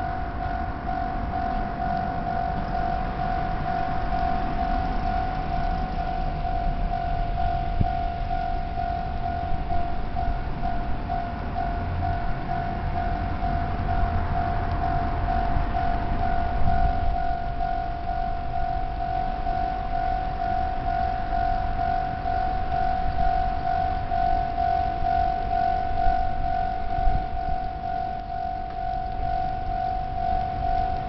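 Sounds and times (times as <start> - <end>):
level-crossing warning bell ringing: 0.0 - 31.0
low rumble: 0.0 - 31.0.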